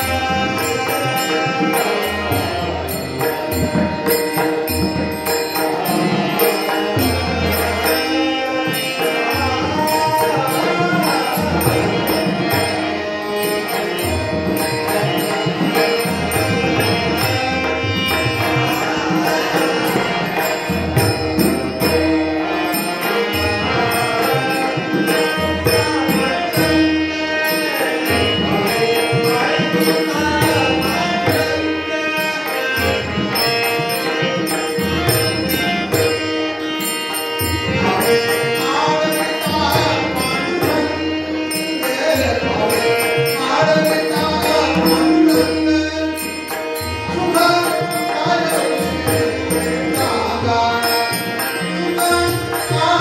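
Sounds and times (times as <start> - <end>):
men singing devotional song: 0.0 - 53.0.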